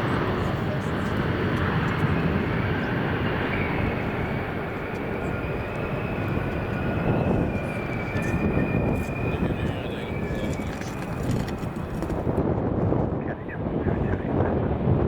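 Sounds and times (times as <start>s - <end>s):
turbine whine: 0.0s - 12.5s
jet engines rumbling: 0.0s - 15.0s
wind on microphone: 0.0s - 15.0s.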